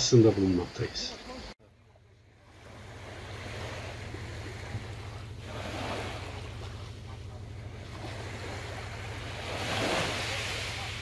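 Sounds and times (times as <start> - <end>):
sea water lapping: 0.0 - 11.0
steady low hum: 0.0 - 11.0.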